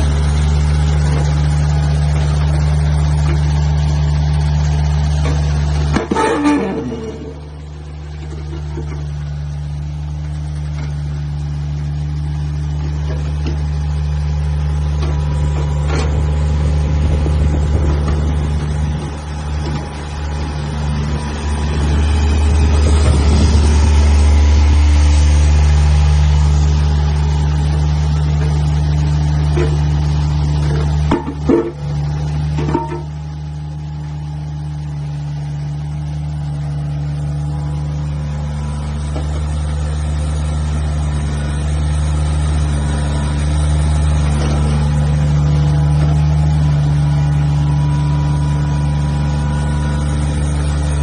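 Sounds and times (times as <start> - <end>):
excavator diesel engine running: 0.0 - 51.0.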